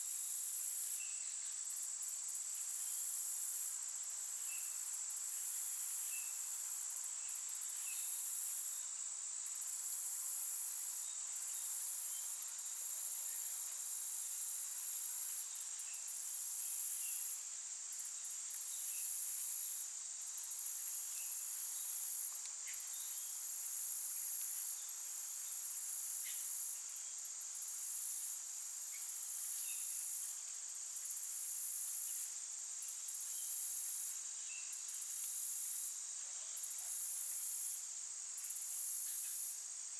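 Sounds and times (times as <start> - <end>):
insects trilling: 0.1 - 39.9.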